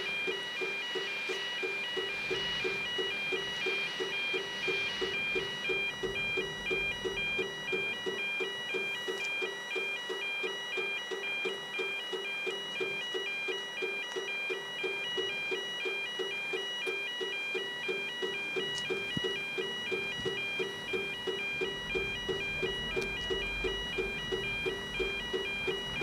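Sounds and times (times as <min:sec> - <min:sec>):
two-tone crossing alarm beeper: 0:00.0 - 0:26.0.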